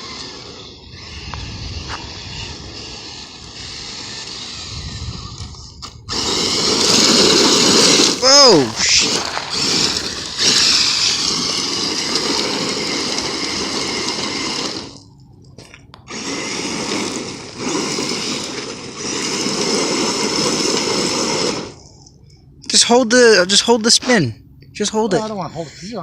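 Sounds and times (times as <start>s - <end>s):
electric motor whining: 0.0s - 22.4s.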